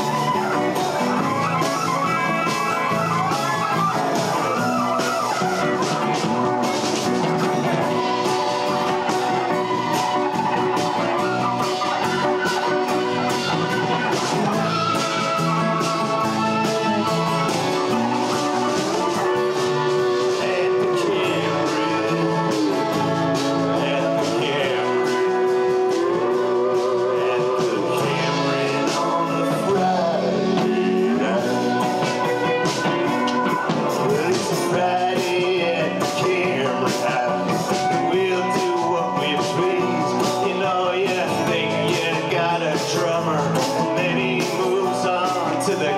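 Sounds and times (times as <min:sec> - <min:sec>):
electric bass: 0:00.0 - 0:45.9
keyboard: 0:00.0 - 0:45.9
regular drum beat: 0:00.0 - 0:45.9
strummed acoustic guitar: 0:00.0 - 0:45.9.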